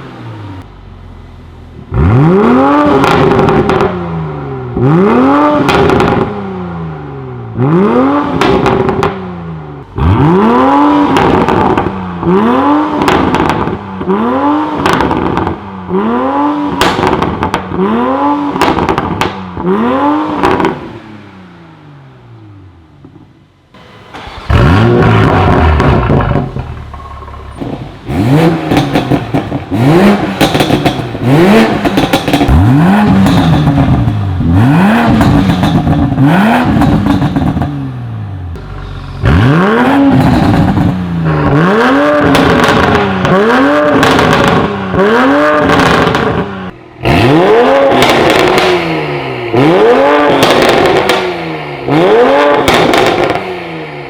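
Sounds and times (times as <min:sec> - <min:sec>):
car engine revving: 0:00.0 - 0:23.2, 0:23.8 - 0:54.0.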